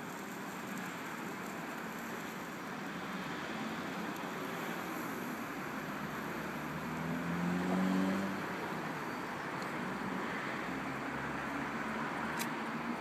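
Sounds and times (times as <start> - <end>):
street traffic noise: 0.0 - 13.0
vehicle engine hum: 0.0 - 13.0.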